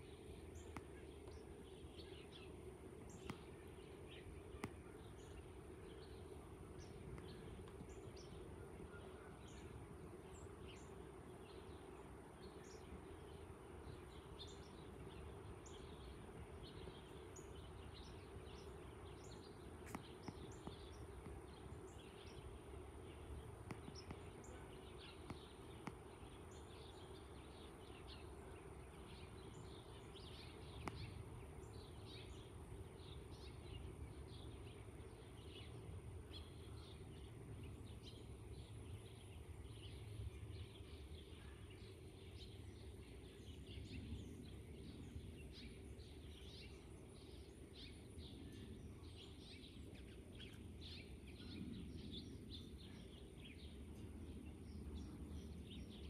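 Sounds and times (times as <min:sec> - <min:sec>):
low steady rumble: 0:00.0 - 0:56.0
small birds chirping: 0:00.0 - 0:56.0.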